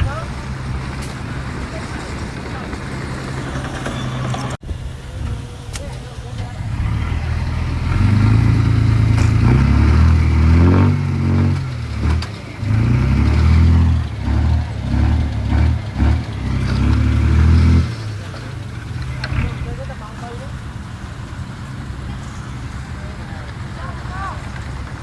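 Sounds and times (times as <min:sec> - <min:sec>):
diesel engine revving under load: 0:00.0 - 0:25.0.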